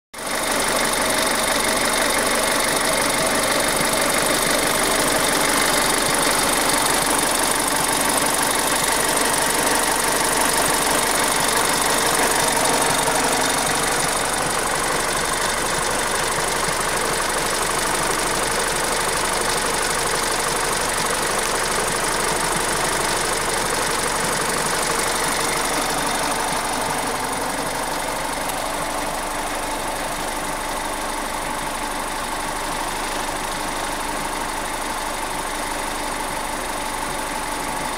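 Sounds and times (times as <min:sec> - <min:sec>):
car engine idling with rattle: 0:00.2 - 0:37.9.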